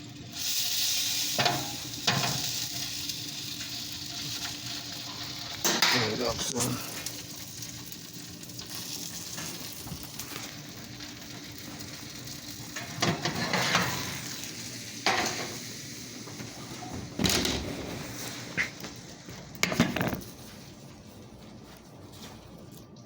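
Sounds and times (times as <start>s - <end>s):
sausages sizzling in a pan: 0.0s - 20.2s.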